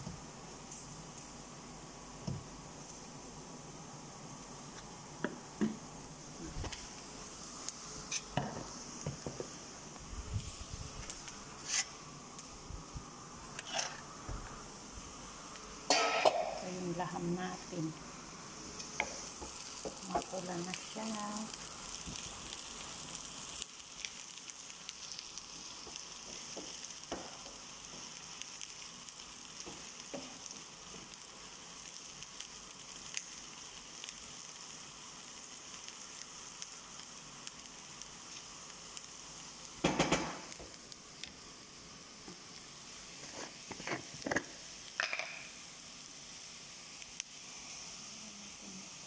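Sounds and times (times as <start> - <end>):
onions sizzling in oil: 0.0 - 49.0.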